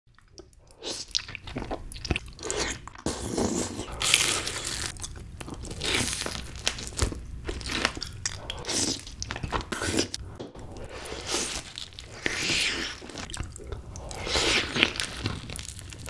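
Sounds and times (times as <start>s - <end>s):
soft chewing: 0.1s - 16.0s.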